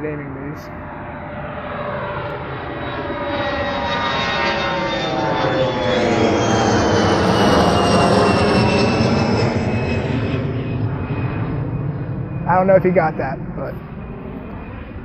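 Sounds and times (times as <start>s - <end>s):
airplane passing close: 0.0s - 15.0s.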